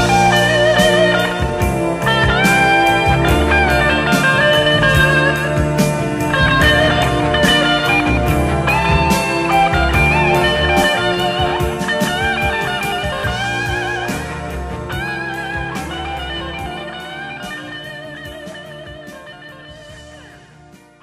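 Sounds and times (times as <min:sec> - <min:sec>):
band music: 0:00.0 - 0:21.0
electric guitar lead with vibrato: 0:00.0 - 0:21.0.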